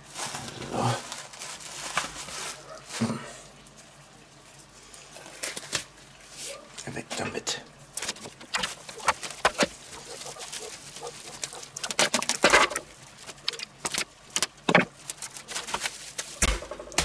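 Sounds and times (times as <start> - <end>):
plastic cling film crackling: 0.0 - 3.8, 4.9 - 6.6, 7.9 - 17.0.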